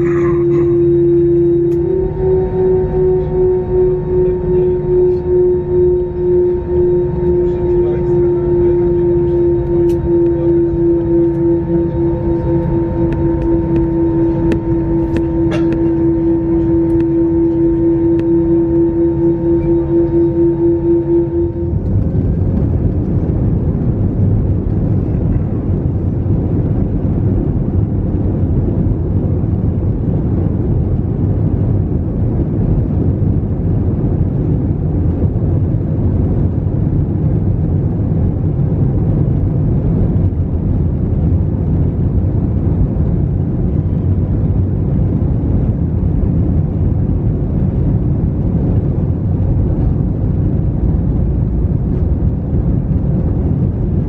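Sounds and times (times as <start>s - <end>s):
airliner cabin low rumble: 0.0s - 54.0s.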